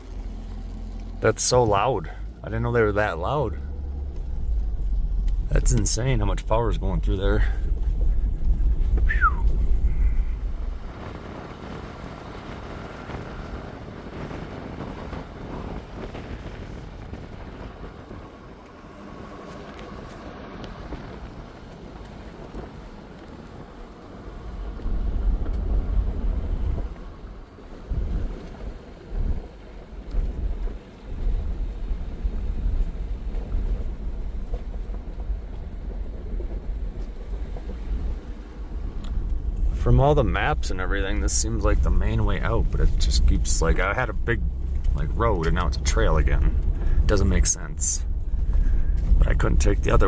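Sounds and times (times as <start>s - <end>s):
engine and road rumble in cab: 0.0s - 50.0s.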